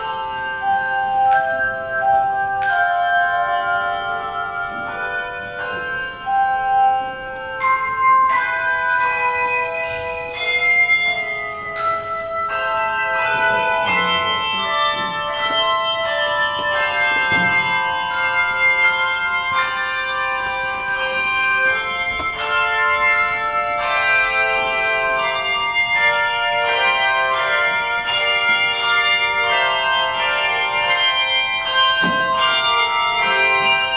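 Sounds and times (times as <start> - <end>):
handbell choir playing: 0.0 - 33.9.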